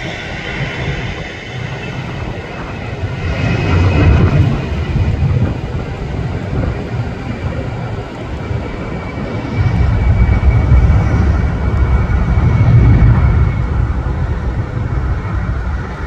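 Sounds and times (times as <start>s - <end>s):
high engine whine: 0.0s - 16.0s
jet engines rumbling at takeoff: 0.0s - 16.0s.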